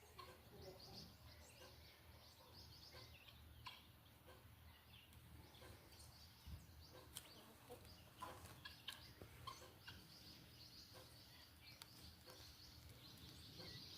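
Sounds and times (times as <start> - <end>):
low background noise: 0.0 - 13.9.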